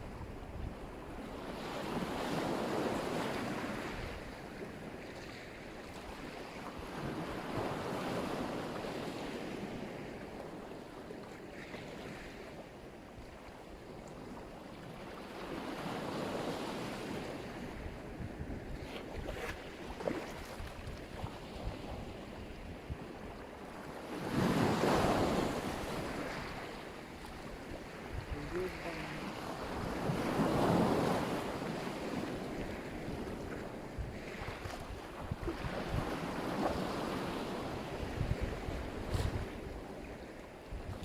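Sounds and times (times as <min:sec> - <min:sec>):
waves breaking on shore: 0:00.0 - 0:41.0.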